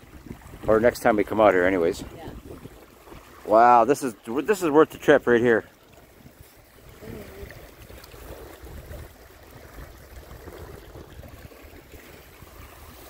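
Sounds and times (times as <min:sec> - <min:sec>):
water lapping among rocks: 0:00.0 - 0:13.0.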